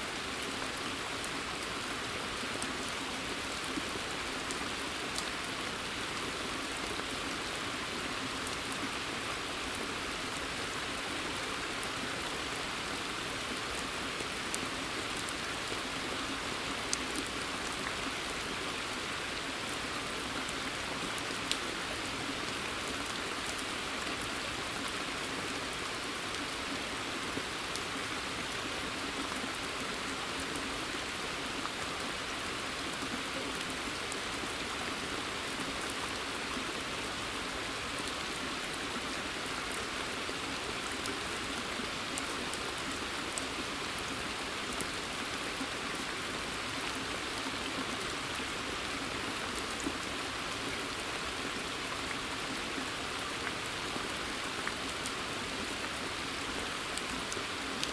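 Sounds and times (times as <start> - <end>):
rain hiss: 0.0 - 57.9.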